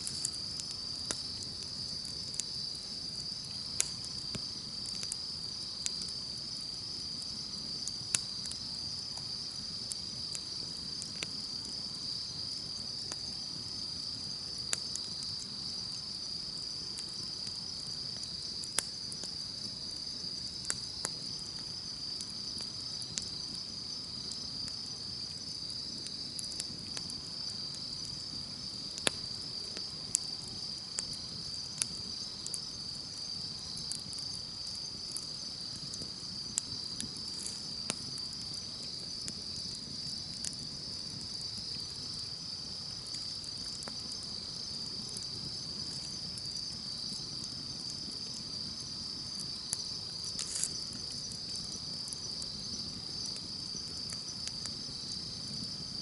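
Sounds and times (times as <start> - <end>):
campfire crackling and popping: 0.0 - 56.0
insects chirring: 0.0 - 56.0.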